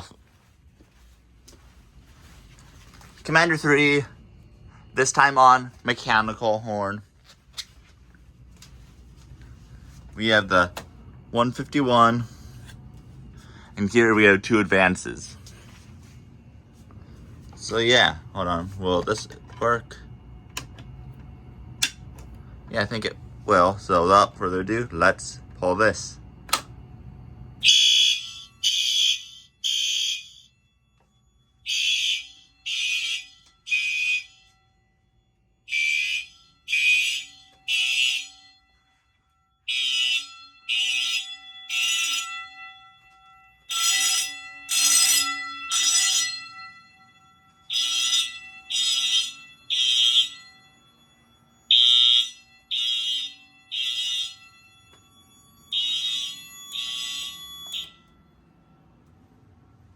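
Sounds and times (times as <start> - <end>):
faint steady tone: 0.0 - 59.9
fire alarm horns: 0.0 - 59.9.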